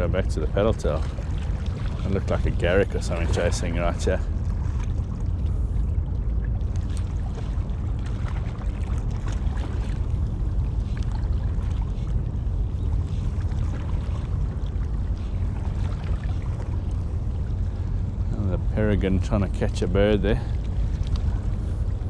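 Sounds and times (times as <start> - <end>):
water lapping at bank: 0.0 - 22.0
wind buffeting microphone: 0.0 - 22.0.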